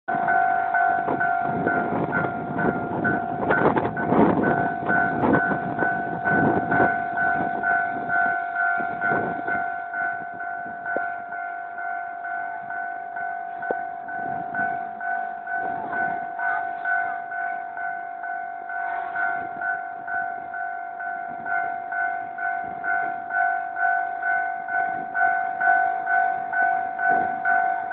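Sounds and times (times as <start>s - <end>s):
pulsing level crossing signal: 0.1s - 27.9s
train rumbling and clattering: 0.1s - 27.9s.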